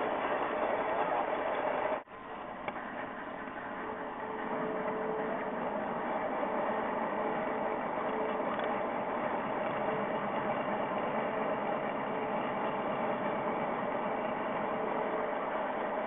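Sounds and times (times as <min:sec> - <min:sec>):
faint steady tones: 0:00.0 - 0:16.0
model train mechanical hum: 0:00.0 - 0:16.0.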